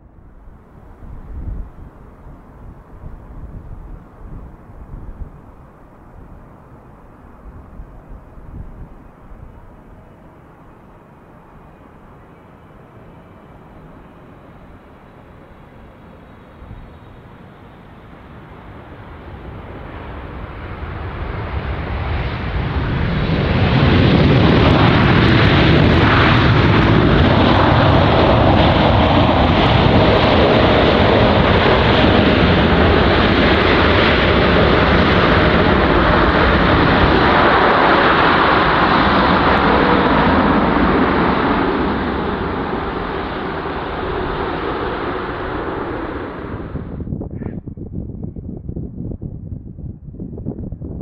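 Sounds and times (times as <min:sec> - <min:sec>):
jet airliner engine roar: 0:00.0 - 0:51.0.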